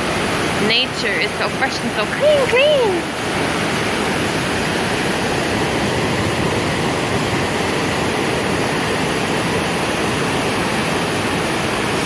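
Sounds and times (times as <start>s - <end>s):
creek rapids rushing over rocks: 0.0s - 12.0s.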